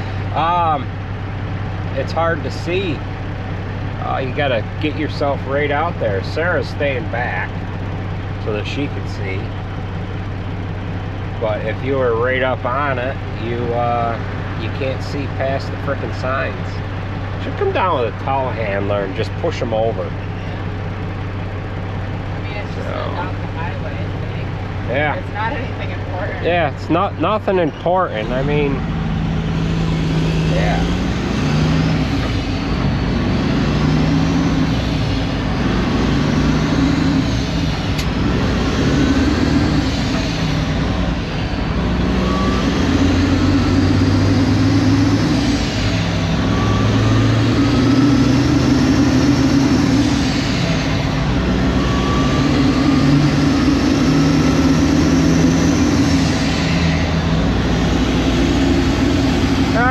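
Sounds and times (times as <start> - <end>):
road noise: 0.0 - 59.9
truck engine: 0.0 - 59.9.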